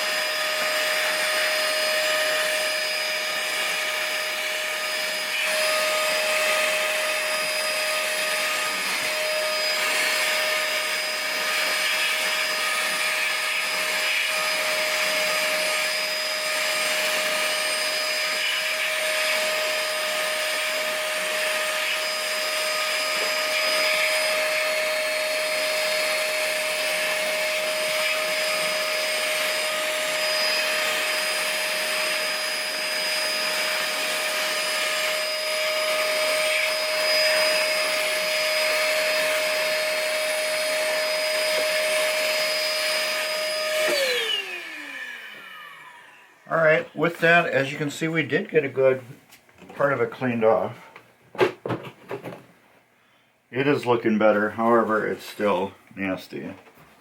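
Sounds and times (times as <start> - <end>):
shop vacuum running: 0.0 - 48.9.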